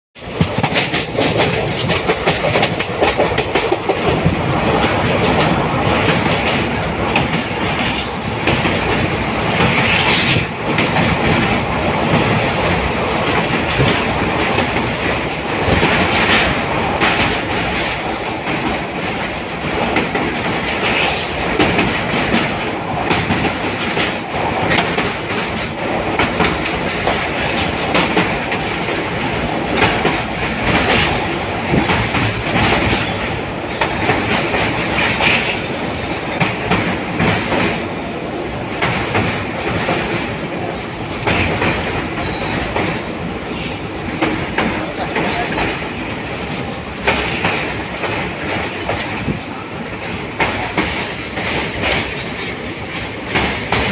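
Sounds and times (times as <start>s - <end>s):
train rushing: 0.2s - 53.9s
train wheels clattering on track: 0.2s - 53.9s.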